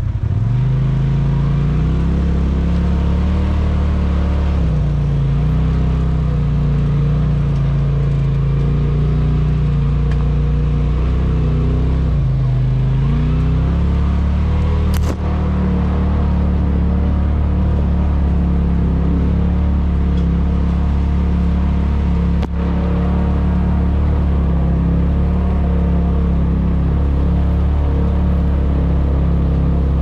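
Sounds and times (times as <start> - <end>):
off-road vehicle engine revving: 0.0 - 30.0.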